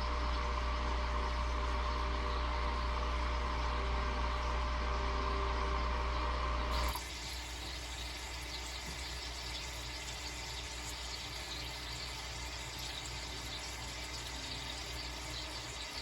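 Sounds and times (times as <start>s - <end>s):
steady humming rumble with hiss: 0.0s - 16.0s.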